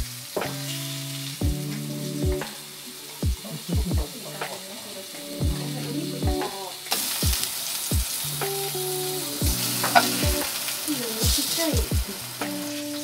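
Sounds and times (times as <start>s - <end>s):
light music with plucked notes: 0.0s - 13.0s
vegetables sizzling in a frying pan: 0.0s - 13.0s.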